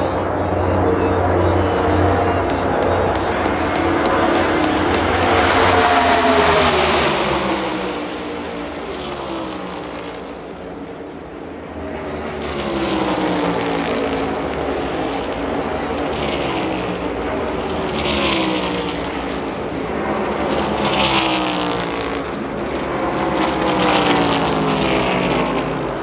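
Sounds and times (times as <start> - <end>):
racing car engines droning past: 0.0 - 26.0.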